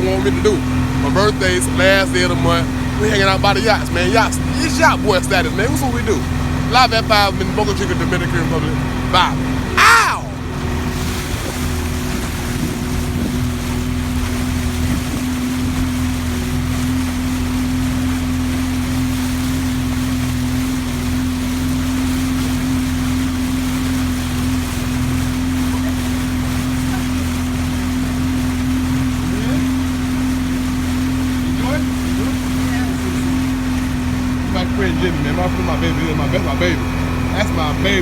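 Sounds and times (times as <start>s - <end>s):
boat engine humming: 0.0s - 38.0s
wind and water rushing: 0.0s - 38.0s.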